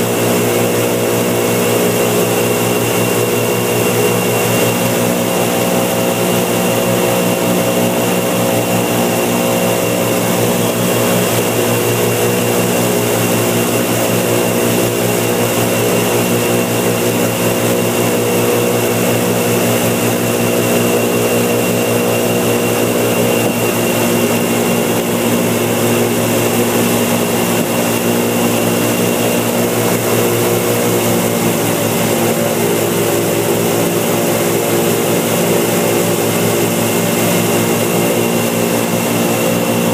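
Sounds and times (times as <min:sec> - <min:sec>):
boat motor droning: 0:00.0 - 0:39.9.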